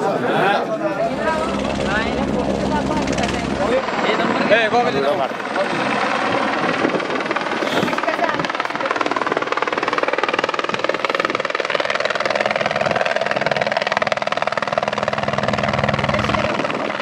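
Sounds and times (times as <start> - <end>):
helicopter rotor beating: 0.4 - 17.0.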